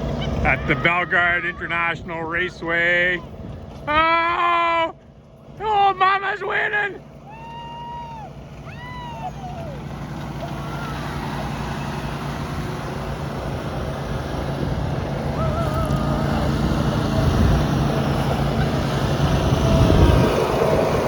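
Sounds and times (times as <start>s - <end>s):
lawn mower engines running: 0.0s - 21.0s.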